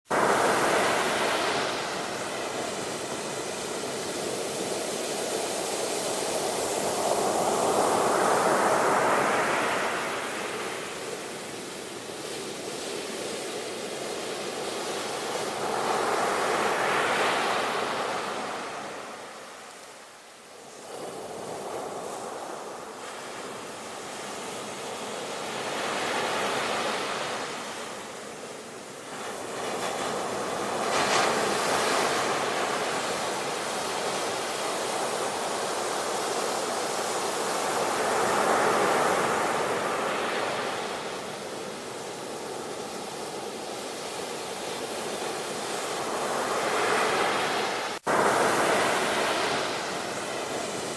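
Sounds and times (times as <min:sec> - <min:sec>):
sea waves breaking on shore: 0:00.1 - 0:50.9.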